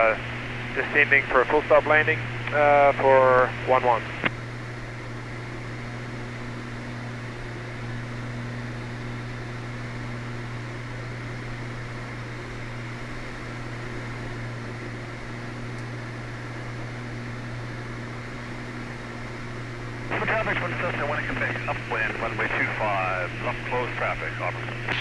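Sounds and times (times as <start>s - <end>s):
propeller plane cabin drone: 0.0s - 25.0s.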